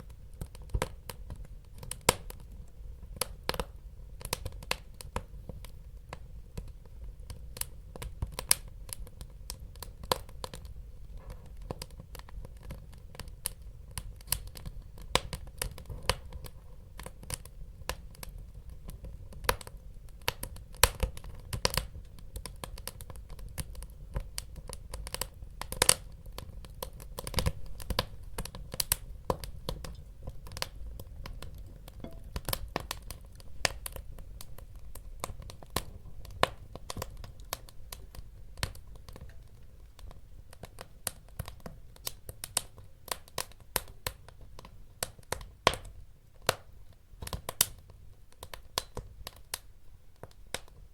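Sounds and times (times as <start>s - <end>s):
low rumble of flame: 0.0s - 50.7s
wood fire crackling and popping: 0.0s - 50.9s.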